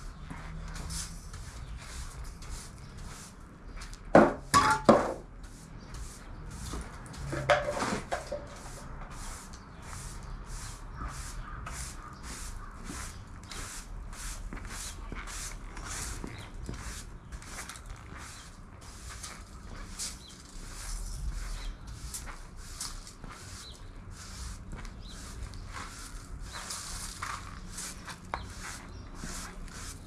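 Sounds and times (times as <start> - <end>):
broom sweeping floor: 0.0 - 30.0.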